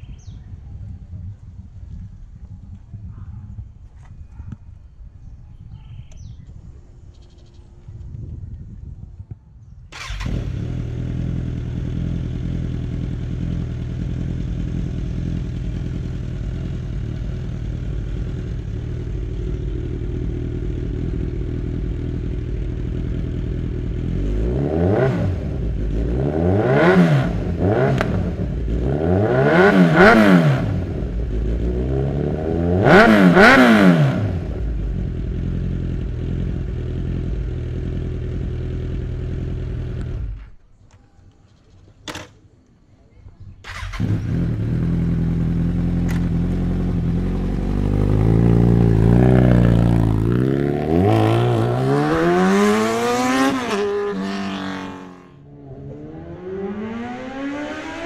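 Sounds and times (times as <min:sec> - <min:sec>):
motorcycle engine idling and revving: 0:00.0 - 0:40.9, 0:43.6 - 0:58.0.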